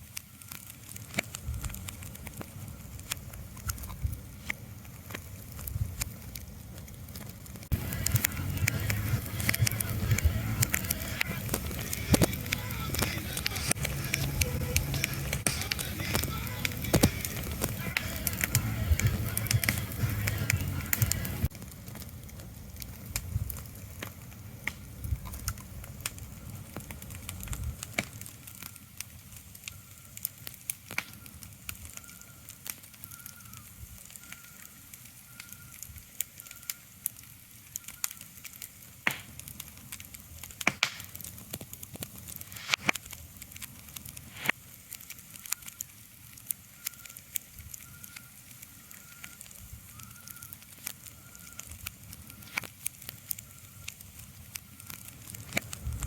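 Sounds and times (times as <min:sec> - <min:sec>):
sharp crackles and pops: 0:00.0 - 0:56.0.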